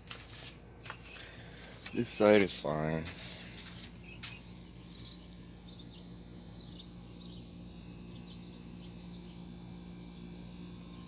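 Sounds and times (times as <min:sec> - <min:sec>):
steady low hum: 0:00.0 - 0:11.0
bird chirping: 0:00.2 - 0:11.0.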